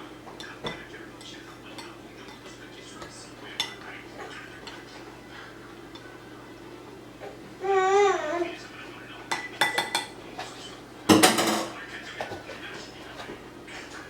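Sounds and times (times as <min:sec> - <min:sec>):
utensils clinking against dishes: 0:00.0 - 0:06.6, 0:08.6 - 0:14.0.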